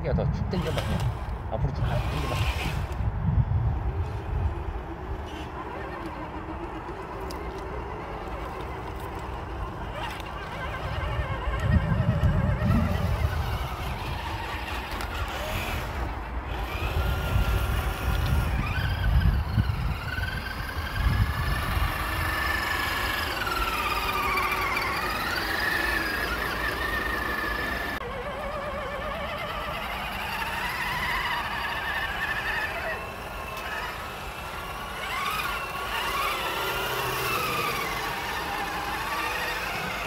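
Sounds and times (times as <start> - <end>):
toy truck electric motors whining: 0.3 - 40.0.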